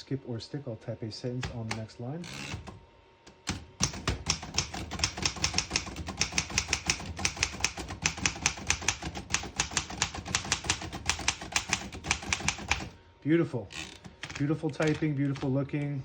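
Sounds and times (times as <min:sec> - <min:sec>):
manual typewriter typing: 0:01.4 - 0:13.0, 0:13.8 - 0:16.0.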